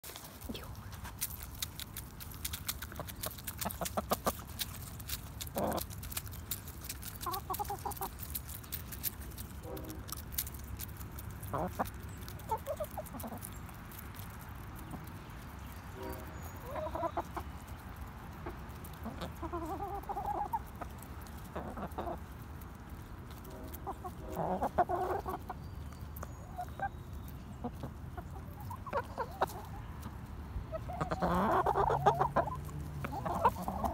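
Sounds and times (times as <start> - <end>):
beaks pecking grain from palm: 0.0 - 33.9
hens clucking: 1.9 - 13.7, 16.0 - 25.6, 26.2 - 33.9.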